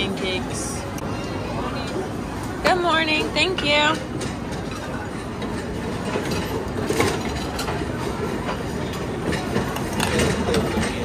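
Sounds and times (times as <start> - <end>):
restaurant background din: 0.0 - 11.0.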